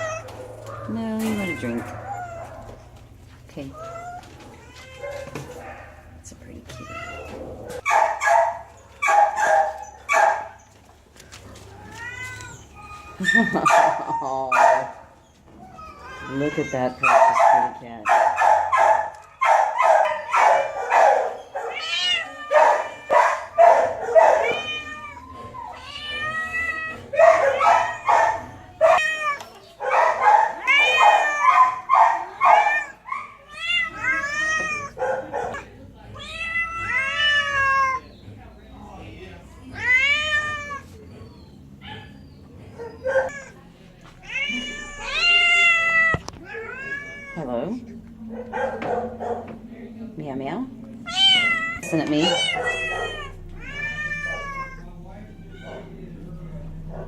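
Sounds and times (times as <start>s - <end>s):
cats meowing: 0.0s - 5.6s, 6.5s - 7.9s, 11.4s - 14.6s, 15.4s - 17.7s, 19.1s - 38.2s, 39.6s - 48.9s, 50.9s - 57.0s.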